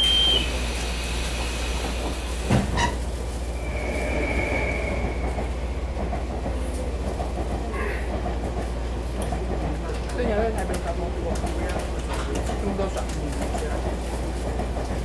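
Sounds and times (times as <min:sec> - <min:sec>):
train interior hum: 0:00.0 - 0:15.0.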